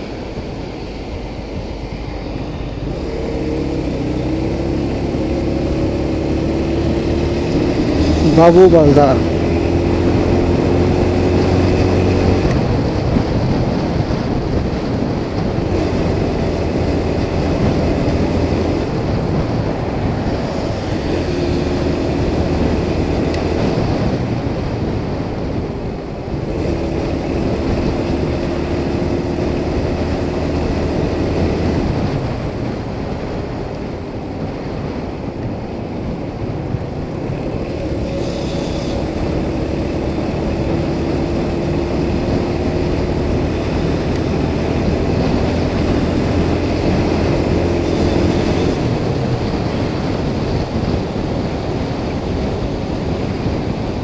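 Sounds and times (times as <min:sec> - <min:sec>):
motorcycle engine hum: 0:00.0 - 0:54.0
wind rushing over microphone: 0:00.0 - 0:54.0.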